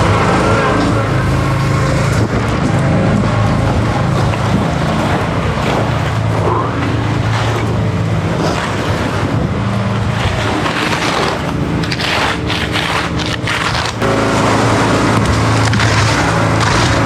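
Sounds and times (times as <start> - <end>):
concrete equipment engine running: 0.0 - 17.0
gritty scraping: 0.0 - 17.0.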